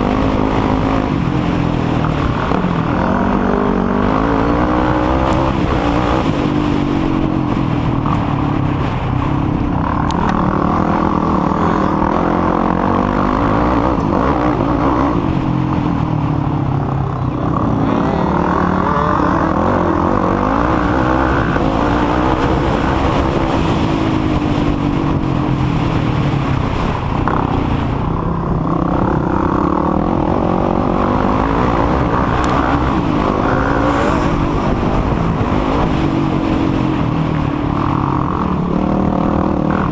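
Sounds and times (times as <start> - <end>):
dense low rumble: 0.0 - 39.9
quad engines revving: 0.0 - 39.9.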